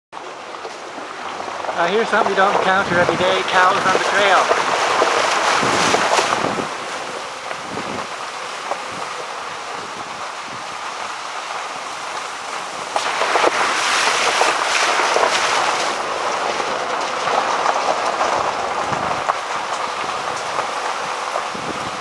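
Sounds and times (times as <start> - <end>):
tyres crunching on wet gravel: 0.2 - 22.0
wind noise on microphone: 1.1 - 22.0.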